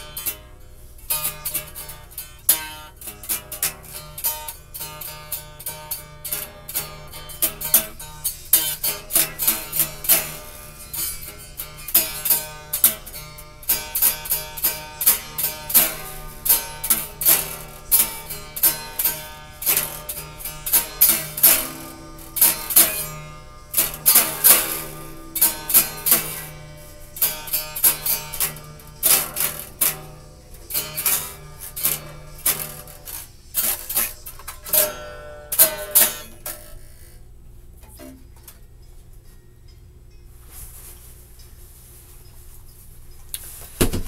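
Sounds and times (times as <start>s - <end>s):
fingerpicked acoustic guitar: 0.0s - 43.7s.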